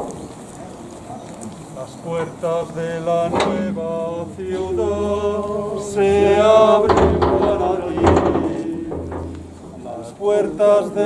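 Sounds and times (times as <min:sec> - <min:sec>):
slow funeral chant: 0:01.7 - 0:11.0.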